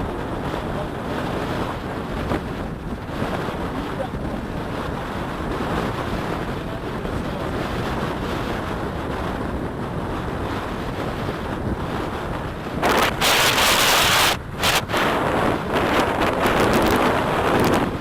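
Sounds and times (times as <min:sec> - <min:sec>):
surf: 0:00.0 - 0:18.0
wind buffeting microphone: 0:00.0 - 0:18.0.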